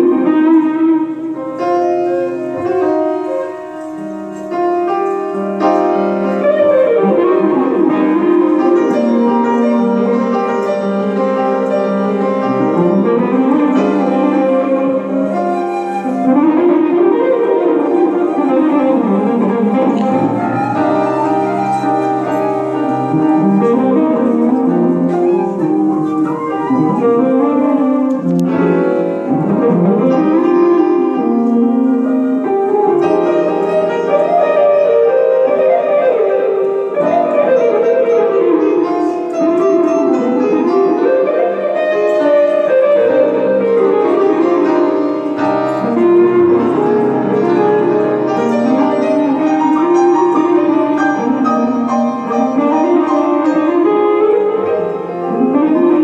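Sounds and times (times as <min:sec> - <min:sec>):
electric guitar: 0:00.0 - 0:56.0
grand piano: 0:00.0 - 0:56.0
small wind instrument gliding notes: 0:00.0 - 0:56.0.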